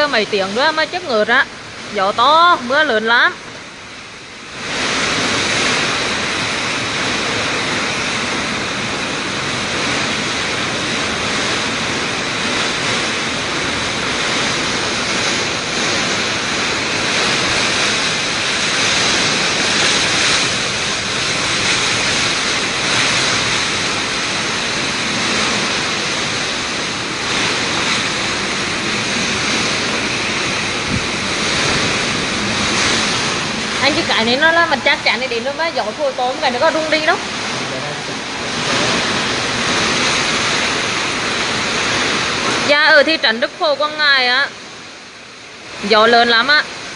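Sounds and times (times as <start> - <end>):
heavy rain: 0.0 - 46.9
strong wind: 0.0 - 46.9.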